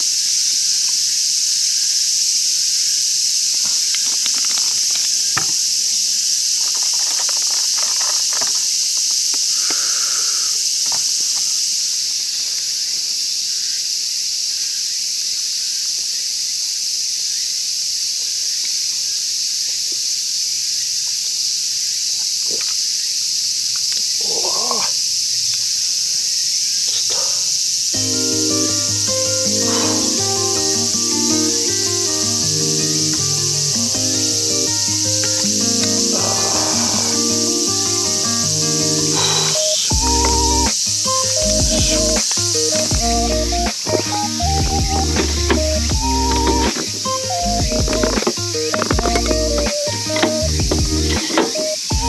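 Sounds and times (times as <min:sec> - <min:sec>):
insects chorus: 0:00.0 - 0:52.0.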